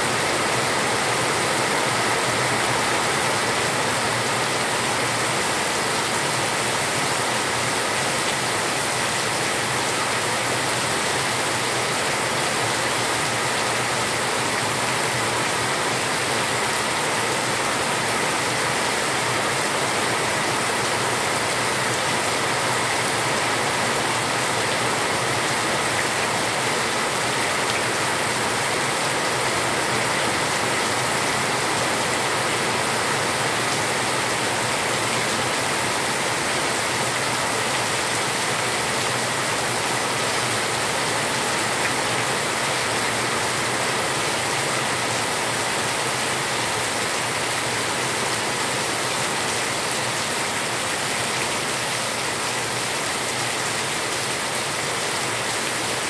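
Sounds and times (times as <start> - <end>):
heavy rain on concrete: 0.0 - 56.0.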